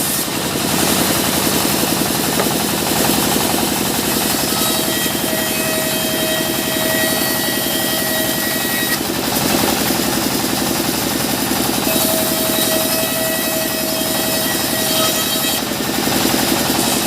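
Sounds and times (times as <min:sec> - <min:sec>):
saw whining: 0:00.0 - 0:17.0
sawmill engine pulsing: 0:00.0 - 0:17.0.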